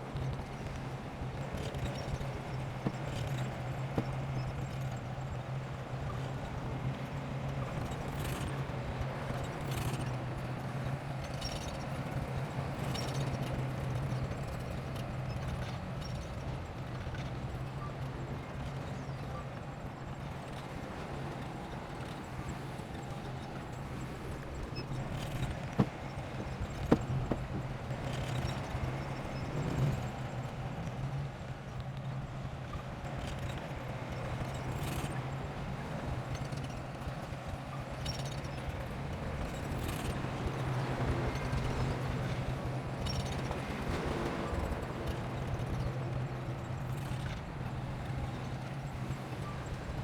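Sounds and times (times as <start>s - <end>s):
bulldozer engine hum: 0.0s - 19.4s, 20.2s - 31.5s, 32.4s - 50.0s.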